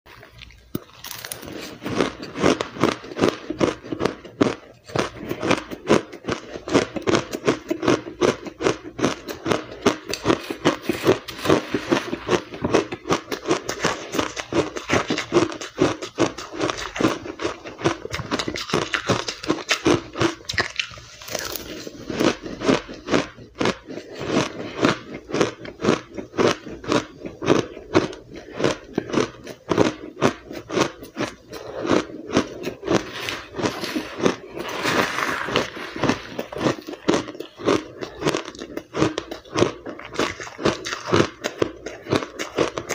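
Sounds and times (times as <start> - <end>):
chewing crushed ice: 0.1 - 42.9.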